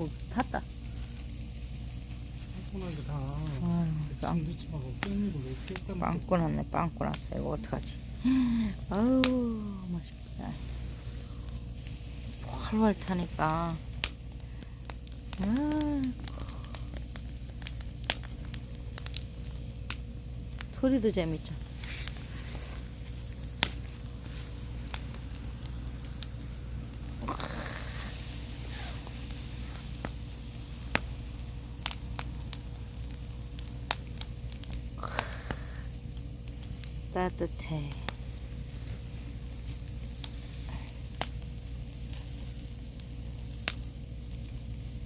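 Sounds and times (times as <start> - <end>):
sharp fire pops: 0.0 - 45.0
steady low rumble: 0.0 - 45.0
wood fire crackling: 0.0 - 45.0.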